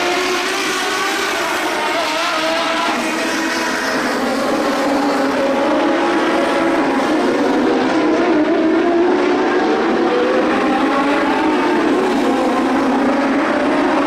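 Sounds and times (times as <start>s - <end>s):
sprint car engines racing: 0.0s - 14.0s.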